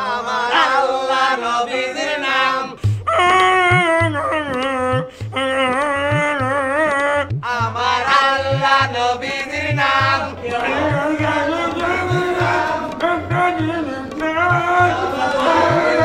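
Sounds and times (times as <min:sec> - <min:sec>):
man singing wordlessly: 0:00.0 - 0:16.0
hand drum beating: 0:02.8 - 0:16.0.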